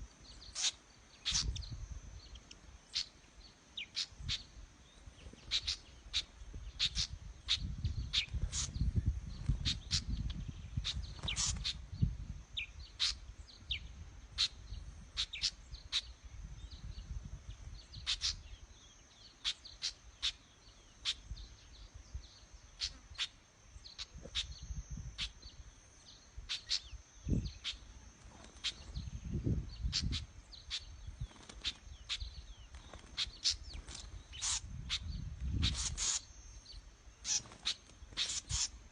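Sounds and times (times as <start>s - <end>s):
small birds alarm calls: 0.0s - 38.9s.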